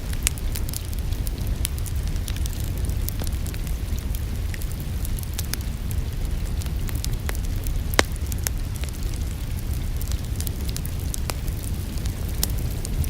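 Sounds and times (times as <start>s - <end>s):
low steady rumble: 0.0s - 13.0s
rain hiss: 0.0s - 13.0s
wood fire crackling: 0.0s - 13.0s.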